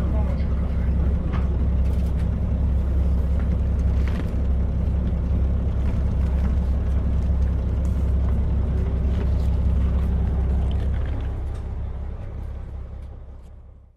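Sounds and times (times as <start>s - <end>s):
diesel railcar rumble inside cabin: 0.0s - 13.9s.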